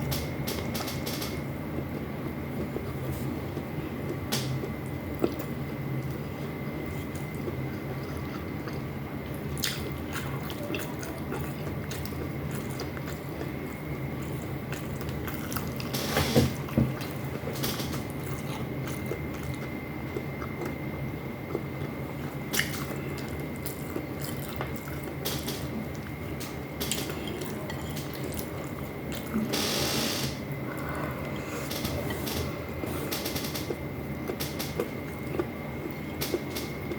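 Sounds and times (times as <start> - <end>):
person chewing: 2.6 - 29.5, 30.5 - 36.9.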